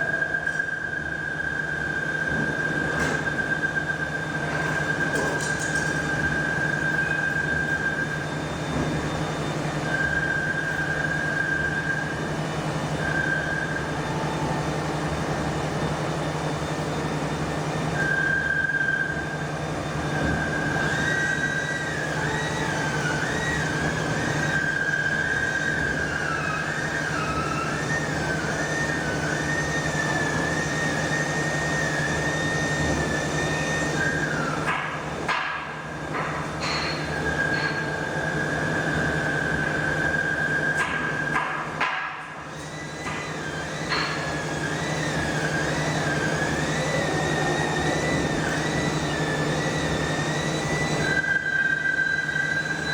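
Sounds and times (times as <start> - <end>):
machinery humming: 0.0 - 52.9.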